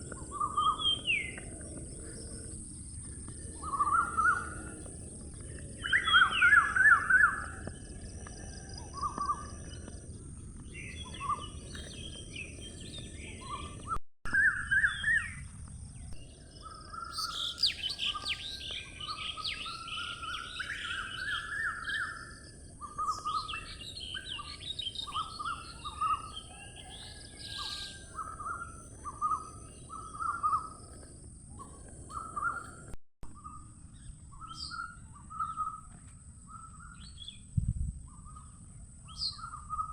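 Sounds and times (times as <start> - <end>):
birds chirping: 0.0 - 37.5.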